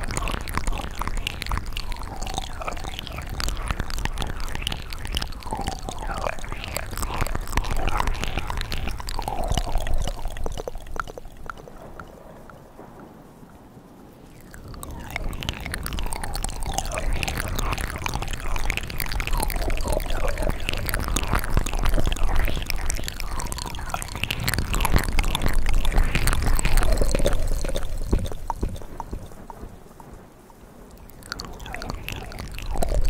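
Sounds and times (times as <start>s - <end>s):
wet mouth clicks and smacks: 0.0s - 12.1s, 14.3s - 30.2s, 30.9s - 33.0s.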